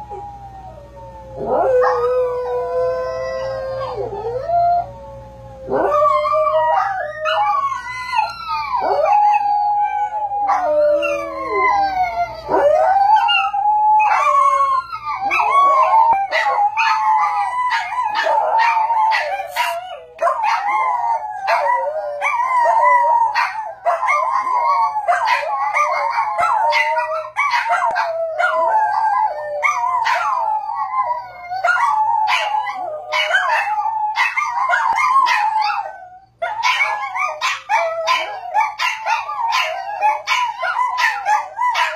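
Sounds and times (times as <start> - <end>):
small dogs howling: 0.0 - 41.9.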